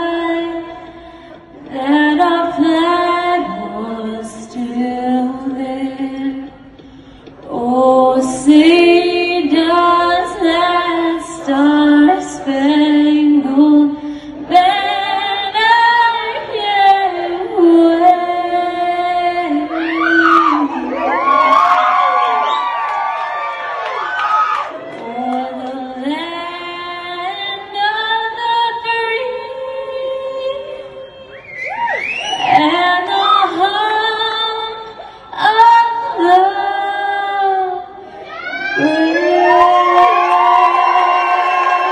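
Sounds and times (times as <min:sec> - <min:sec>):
woman singing into a microphone: 0:00.0 - 0:21.8, 0:24.8 - 0:31.6, 0:32.4 - 0:41.9.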